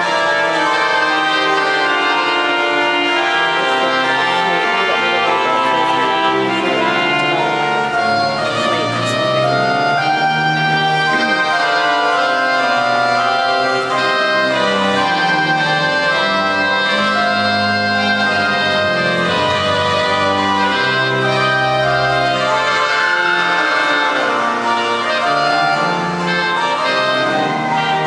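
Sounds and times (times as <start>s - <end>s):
pipe organ playing chords: 0.0s - 28.0s.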